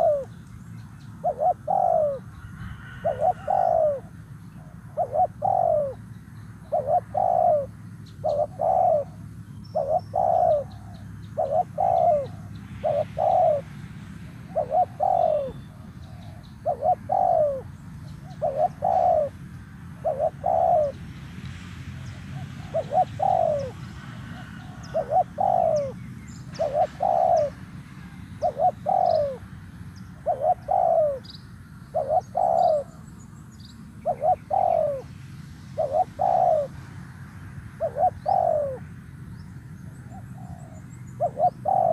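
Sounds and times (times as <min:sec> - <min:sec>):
dove cooing: 0:00.0 - 0:00.4, 0:01.1 - 0:13.7, 0:14.3 - 0:21.1, 0:21.9 - 0:29.5, 0:30.1 - 0:33.1, 0:34.0 - 0:35.1, 0:35.7 - 0:36.8, 0:37.8 - 0:38.9, 0:39.9 - 0:41.9.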